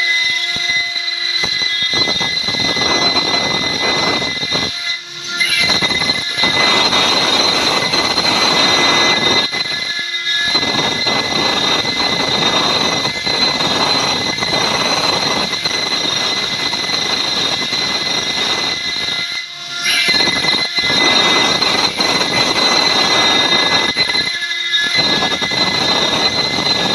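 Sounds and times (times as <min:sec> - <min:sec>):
bit cutting stone: 0:00.0 - 0:26.9
router spindle whine: 0:00.0 - 0:26.9.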